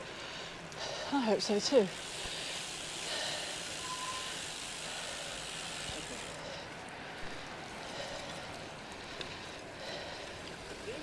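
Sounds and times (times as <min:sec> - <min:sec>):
bicycle tyres hissing on wet road: 0:00.0 - 0:11.0.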